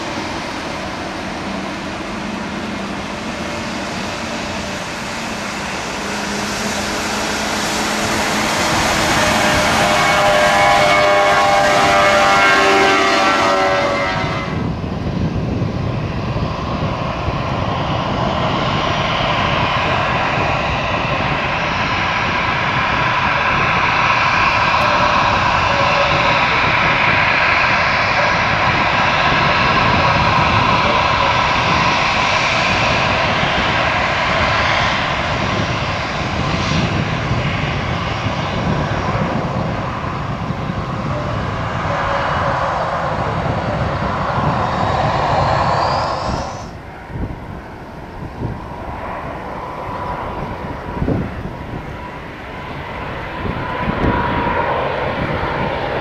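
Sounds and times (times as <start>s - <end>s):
jet engines roaring: 0.0s - 56.0s
jet engines whining: 0.0s - 56.0s.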